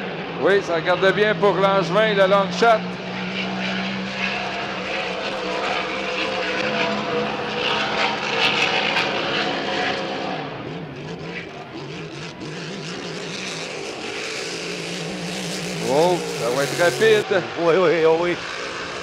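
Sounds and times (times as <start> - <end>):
racing boat engine at full throttle: 0.0 - 19.0.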